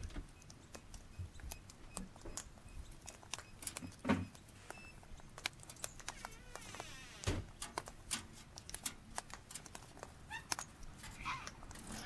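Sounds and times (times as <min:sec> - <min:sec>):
cockatoos clicking and tapping: 0:00.0 - 0:12.0.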